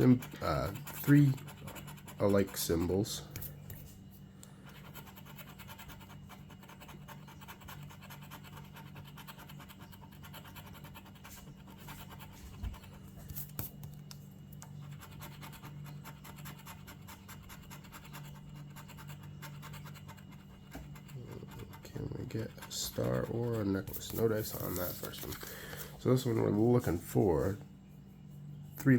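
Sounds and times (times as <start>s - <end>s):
scratching a lottery ticket: 0.0s - 28.9s.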